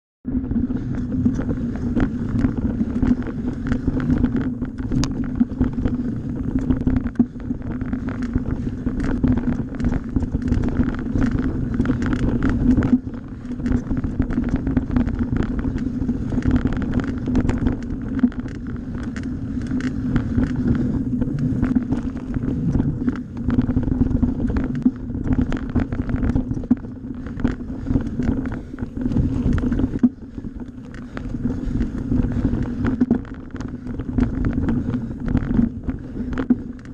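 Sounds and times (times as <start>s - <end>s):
bike tyre rumble on dirt: 0.2s - 36.9s
wind buffeting microphone: 0.2s - 36.9s
steady low hum: 0.3s - 36.9s
bike knocks and rattles: 0.5s - 36.9s.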